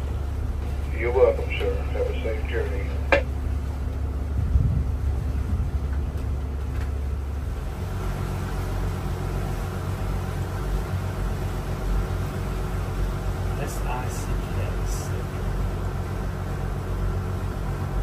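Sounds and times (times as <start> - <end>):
boat engines humming: 0.0 - 18.0.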